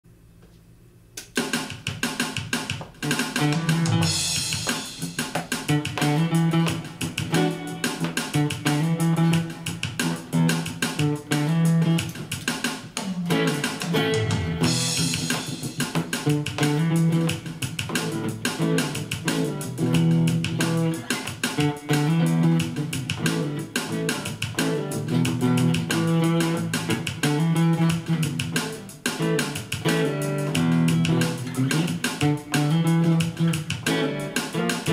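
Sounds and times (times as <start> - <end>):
funk guitar bass and drums: 1.3 - 34.9.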